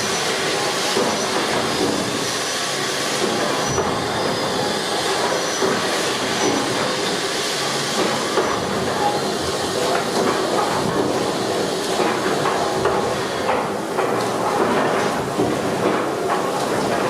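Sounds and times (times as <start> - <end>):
hissing steam: 0.0 - 17.0
steam engine mechanical clatter: 0.0 - 17.0.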